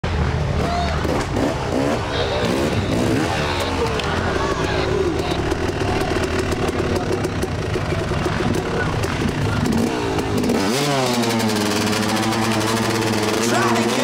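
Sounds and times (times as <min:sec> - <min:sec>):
voices: 0:00.2 - 0:14.0
motorcycle engine idling: 0:00.9 - 0:14.0.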